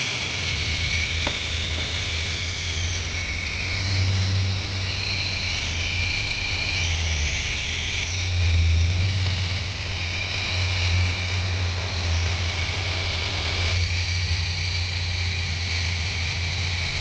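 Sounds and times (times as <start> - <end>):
low hum: 0.0 - 17.0
toy electric motors whining: 0.0 - 17.0.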